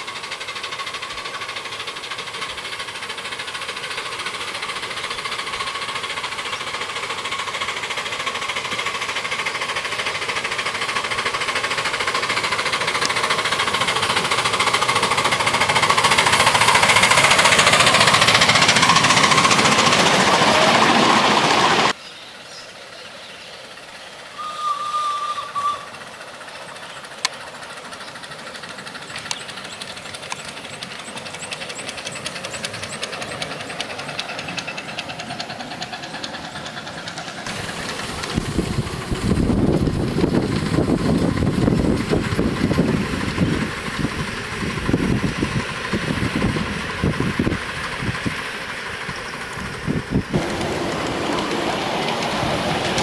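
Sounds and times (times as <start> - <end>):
wheels clattering over rails: 0.0 - 22.0, 23.5 - 53.0
small locomotive motor running: 0.0 - 53.0.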